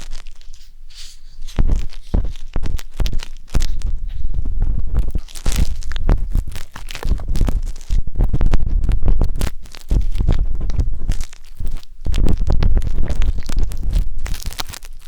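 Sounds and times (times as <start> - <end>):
skewer scratching microphone: 0.0 - 15.0.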